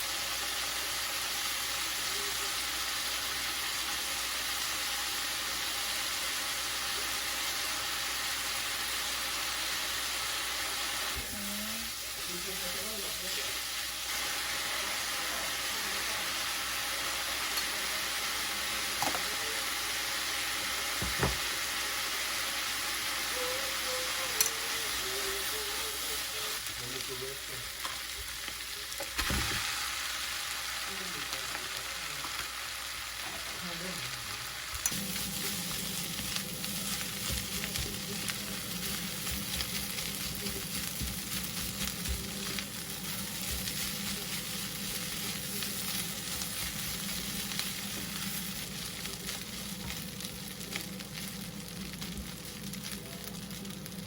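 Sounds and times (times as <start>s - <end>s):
food sizzling in frying pan: 0.0s - 54.0s.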